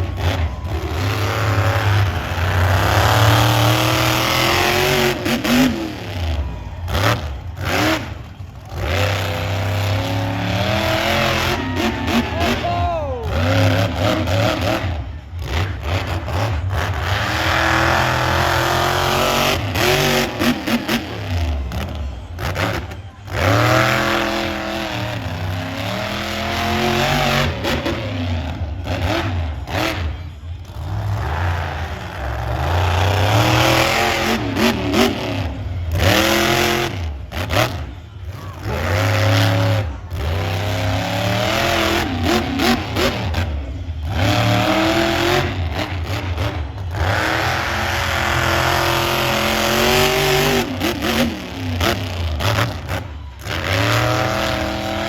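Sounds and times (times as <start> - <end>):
monster truck engine revving: 0.0 - 55.0.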